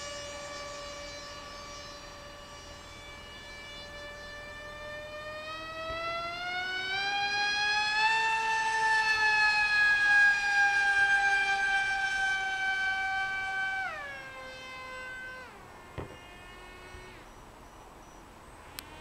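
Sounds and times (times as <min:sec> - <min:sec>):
model plane motor whining: 0:00.0 - 0:19.0.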